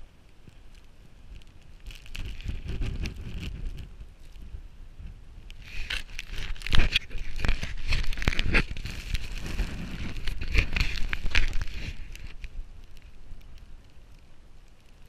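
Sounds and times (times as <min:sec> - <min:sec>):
wind rumbling on microphone: 0:00.0 - 0:15.0
clothing rustling on microphone: 0:00.6 - 0:14.0.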